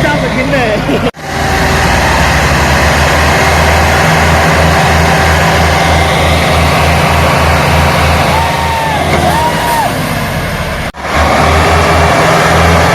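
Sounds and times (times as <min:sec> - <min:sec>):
tractor diesel engine chugging: 0:00.0 - 0:12.9.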